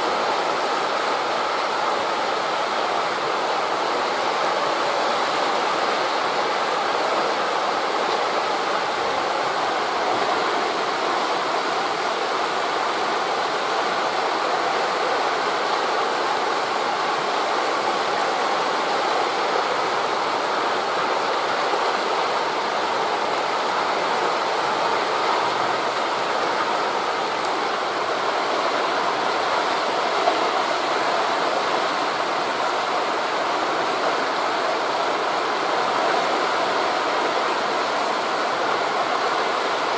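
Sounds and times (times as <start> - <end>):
surf on shore: 0.0 - 39.9
wind through leaves: 0.0 - 39.9.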